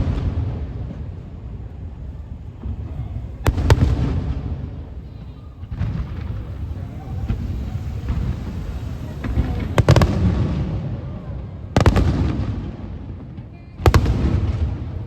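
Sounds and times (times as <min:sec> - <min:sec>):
rumble of echoes: 0:00.0 - 0:13.2, 0:13.9 - 0:15.0
fireworks bangs: 0:01.8 - 0:13.2, 0:13.8 - 0:15.0.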